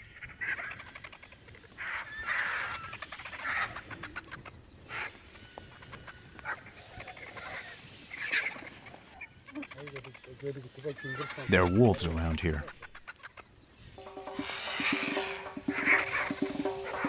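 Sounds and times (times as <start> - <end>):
birds trilled calls: 0.0 - 17.0.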